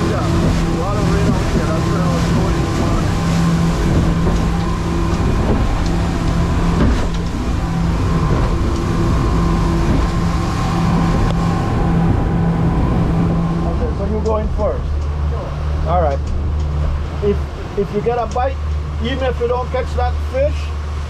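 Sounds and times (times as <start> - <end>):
boat engine humming: 0.0 - 21.0
rush of wind and water: 0.0 - 21.0.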